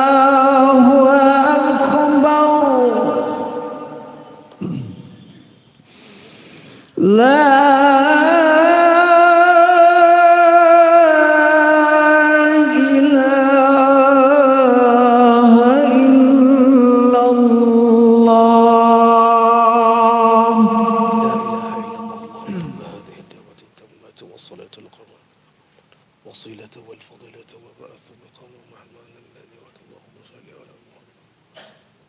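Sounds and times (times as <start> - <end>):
man chanting call to prayer: 0.0 - 4.5, 7.0 - 25.2, 26.3 - 31.1.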